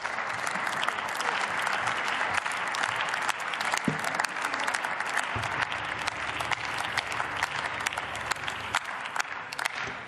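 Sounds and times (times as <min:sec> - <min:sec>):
many people clapping: 0:00.0 - 0:10.0.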